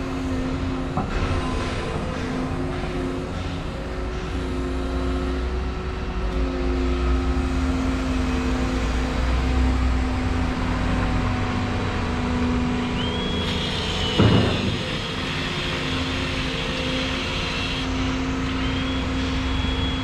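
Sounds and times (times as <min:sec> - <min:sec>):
excavator diesel engine and hydraulics: 0:00.0 - 0:20.0.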